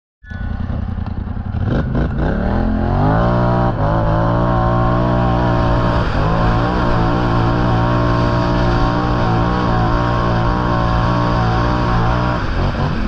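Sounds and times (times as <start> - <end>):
motorcycle engine revving: 0.3 - 13.0.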